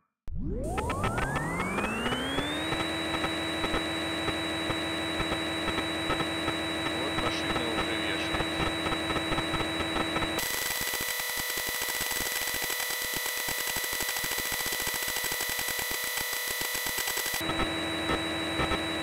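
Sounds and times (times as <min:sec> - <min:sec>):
synthetic spindle whine: 0:00.3 - 0:19.0.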